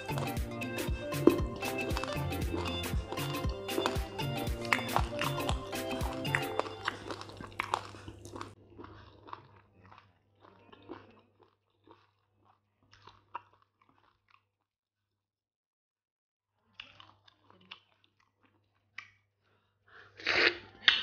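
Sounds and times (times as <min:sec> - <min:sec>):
chewing and wet mouth smacks: 0:00.0 - 0:14.7, 0:16.6 - 0:19.4.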